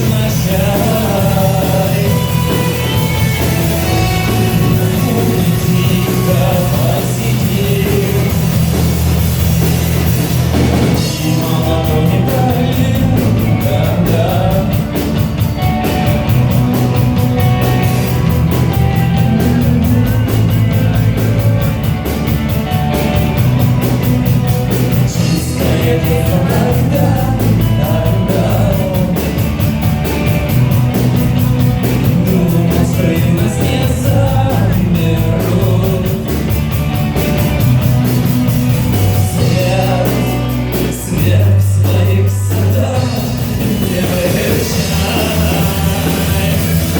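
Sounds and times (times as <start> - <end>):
person singing: 0.0 - 8.9, 10.8 - 22.1, 24.8 - 29.7, 31.6 - 36.7, 38.9 - 46.9
distorted electric guitars: 0.0 - 46.9
driving drum beat: 0.0 - 46.9.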